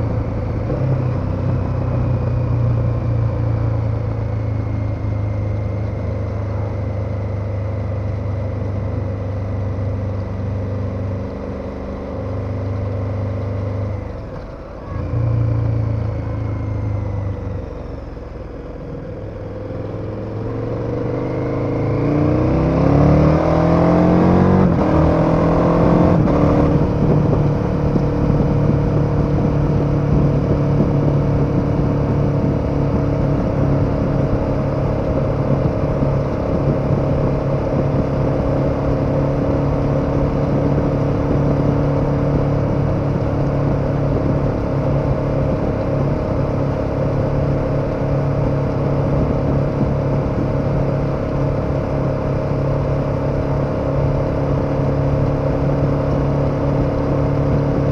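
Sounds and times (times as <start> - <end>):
motorcycle engine: 0.0 - 57.9.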